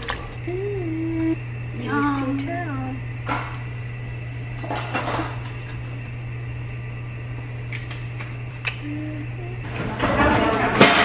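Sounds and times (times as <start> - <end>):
appliance humming: 0.0 - 11.0.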